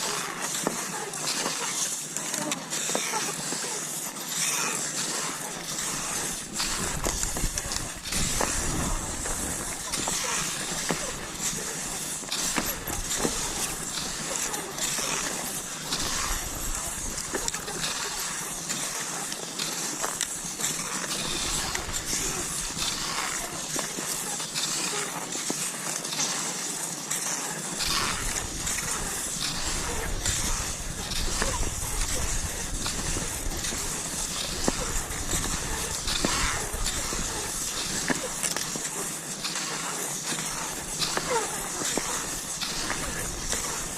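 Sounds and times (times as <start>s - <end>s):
skis swishing over snow: 0.0s - 43.9s
snow crunching: 0.0s - 43.9s.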